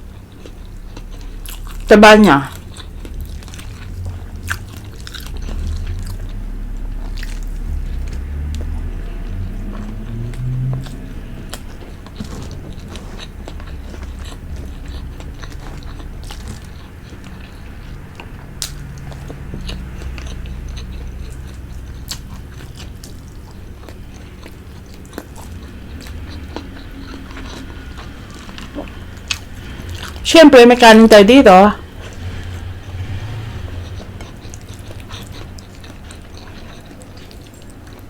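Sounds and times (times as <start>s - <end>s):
person chewing wetly: 0.0s - 30.2s, 31.8s - 38.0s.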